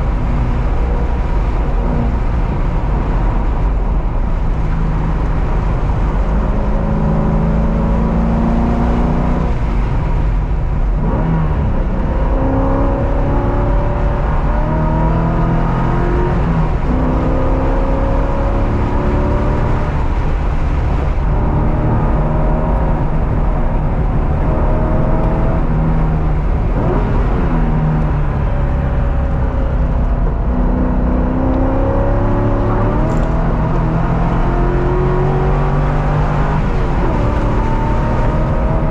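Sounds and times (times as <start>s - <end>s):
race car engine accelerating: 0.0s - 38.9s
road and wind noise: 0.0s - 38.9s.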